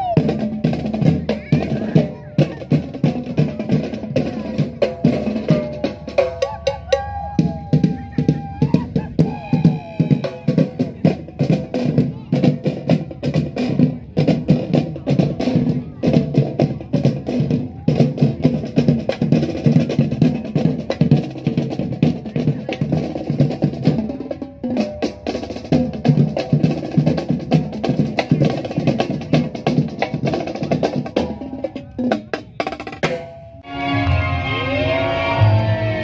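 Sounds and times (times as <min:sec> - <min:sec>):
snare drums playing fast rhythm: 0:00.0 - 0:33.4.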